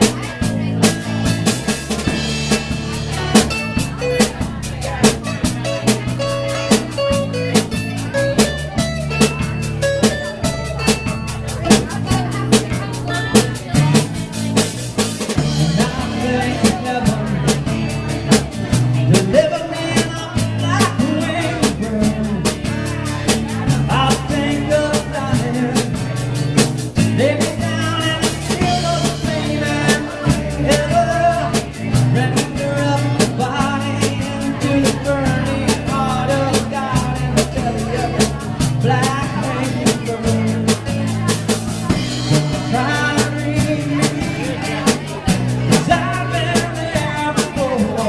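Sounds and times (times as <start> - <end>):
bass guitar: 0.0 - 48.0
drum kit beat: 0.0 - 48.0
electric guitar: 0.0 - 48.0.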